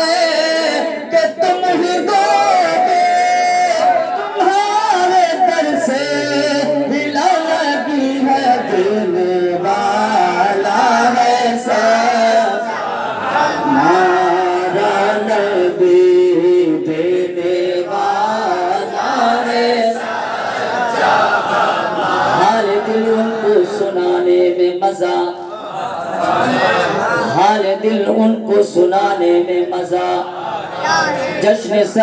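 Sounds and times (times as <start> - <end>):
man singing devotional song: 0.0 - 12.7, 13.6 - 20.1, 22.3 - 25.5, 27.3 - 30.3, 31.4 - 32.0.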